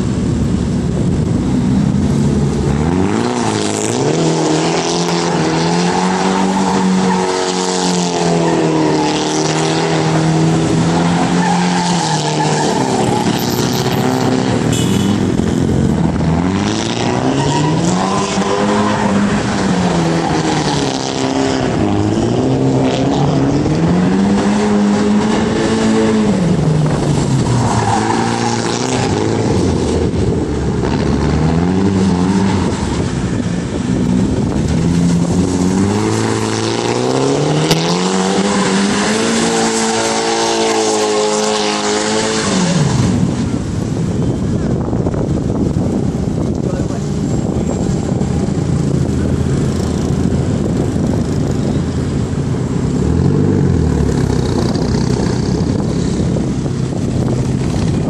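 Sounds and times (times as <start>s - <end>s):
car engine revving: 0.0s - 58.0s
tyres skidding and squealing: 2.1s - 58.0s.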